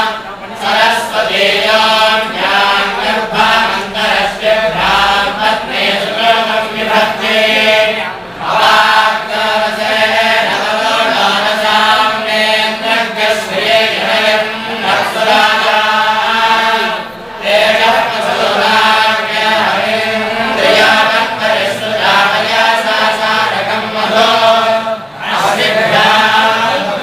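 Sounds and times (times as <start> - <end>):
men chanting in unison: 0.0 - 27.0.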